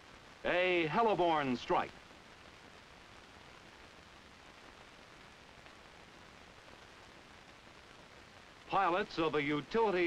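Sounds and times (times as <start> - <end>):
film soundtrack hiss: 0.0 - 10.0.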